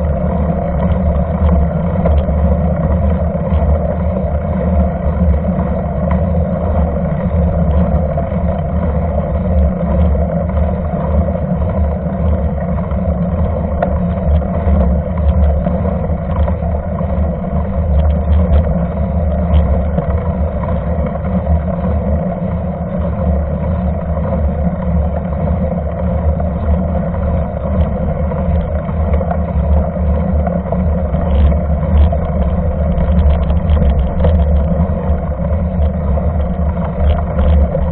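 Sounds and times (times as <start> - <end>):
bike tyre rolling on wet asphalt: 0.0 - 37.9
wind buffeting microphone: 0.0 - 37.9.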